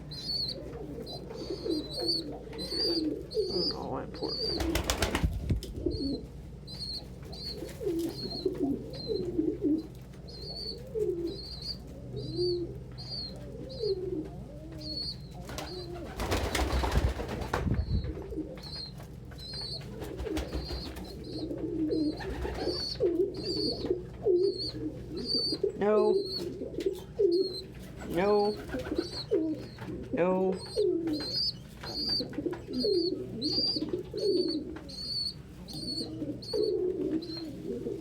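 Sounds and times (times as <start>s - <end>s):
pigeons cooing: 0.0s - 38.0s.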